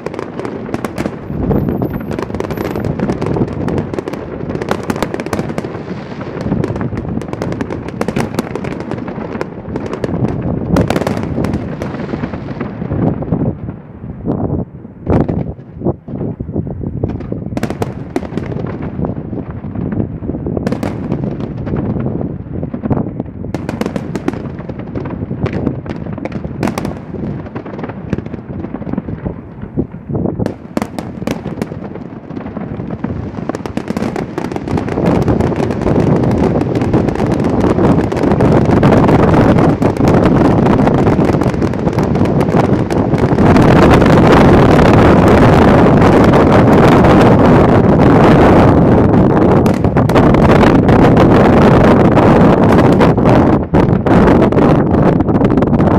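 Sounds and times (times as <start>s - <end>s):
fireworks banging: 0.0s - 55.9s.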